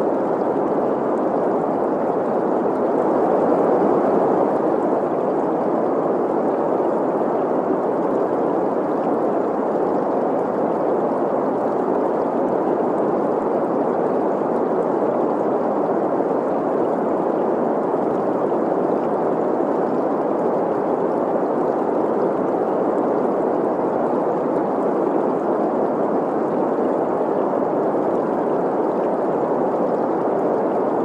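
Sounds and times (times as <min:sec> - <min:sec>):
gurgling stream: 0:00.0 - 0:31.0.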